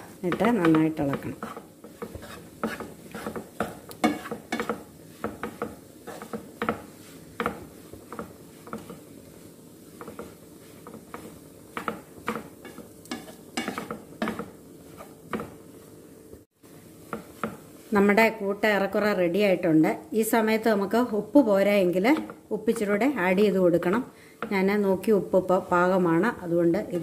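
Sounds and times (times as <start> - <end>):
wooden spatula scraping a pan: 0.0 - 16.0, 16.9 - 18.4, 22.0 - 27.0
faint sizzle: 0.0 - 27.0.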